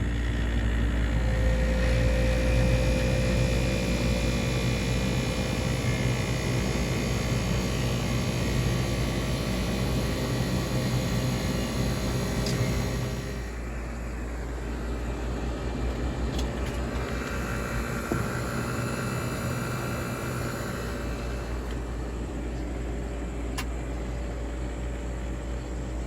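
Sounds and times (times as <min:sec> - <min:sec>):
air conditioner hum and fan: 0:00.0 - 0:26.0.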